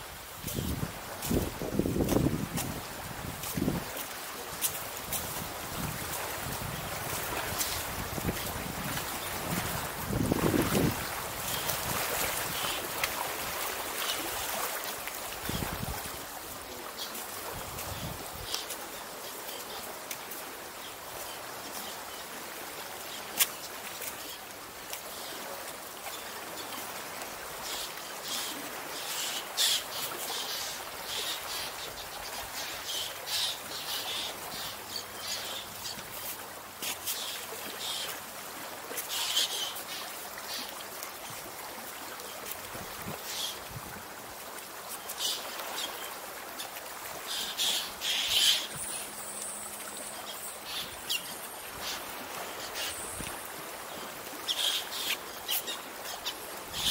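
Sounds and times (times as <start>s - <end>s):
water lapping among rocks: 0.0s - 56.9s.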